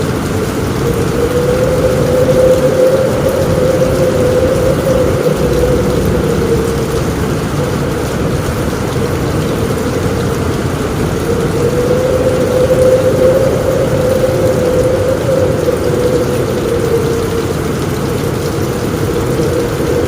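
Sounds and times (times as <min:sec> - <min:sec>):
deep continuous rumble: 0:00.0 - 0:20.0
rain on a roof: 0:00.0 - 0:20.0
whistle of strong wind: 0:00.0 - 0:20.0.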